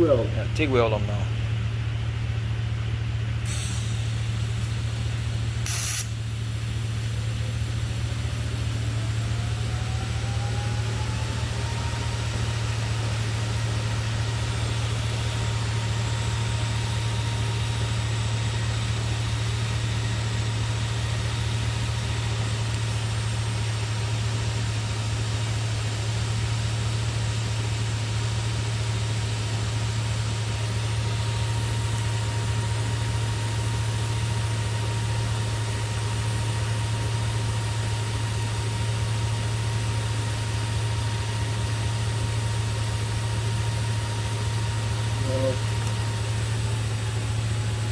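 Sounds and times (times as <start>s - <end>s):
motor humming with whine: 0.0s - 47.9s.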